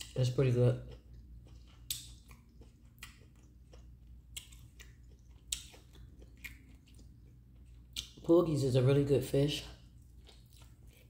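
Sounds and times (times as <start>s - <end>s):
person chewing food: 0.0s - 8.3s, 9.8s - 11.0s.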